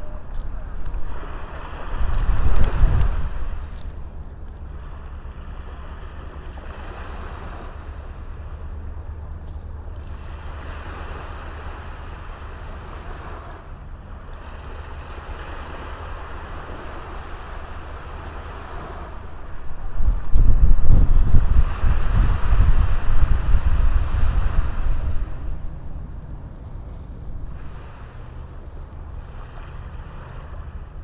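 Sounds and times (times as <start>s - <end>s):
small waves washing on shore: 0.0s - 31.0s
wind rumble on microphone: 0.0s - 31.0s.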